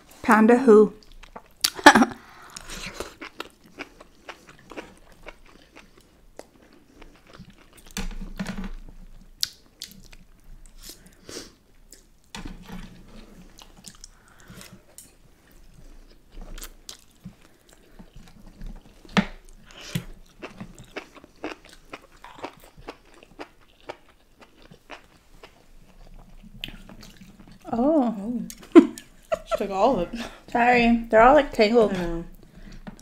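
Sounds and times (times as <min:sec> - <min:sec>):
food crunching: 0:01.0 - 0:27.9
people chewing food: 0:01.0 - 0:33.0.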